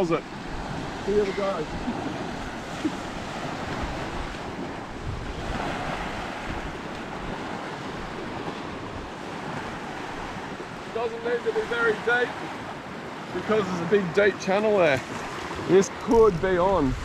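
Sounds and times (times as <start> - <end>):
wind buffeting microphone: 0.0 - 14.1, 15.0 - 17.0
small waves breaking on sand: 0.0 - 17.0.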